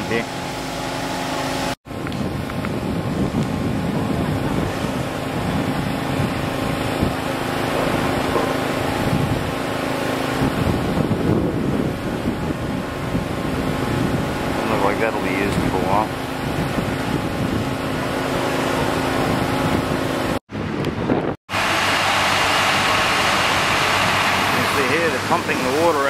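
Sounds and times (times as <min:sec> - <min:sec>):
pump humming: 0:00.0 - 0:20.4, 0:21.5 - 0:26.0
wind buffeting microphone: 0:01.9 - 0:26.0.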